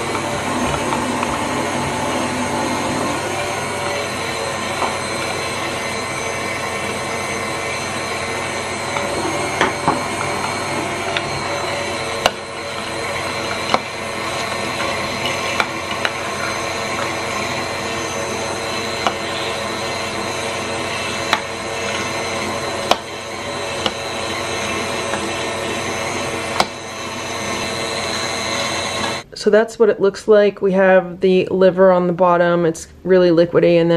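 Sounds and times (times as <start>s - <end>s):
mixer motor and gear whine: 0.0s - 29.3s.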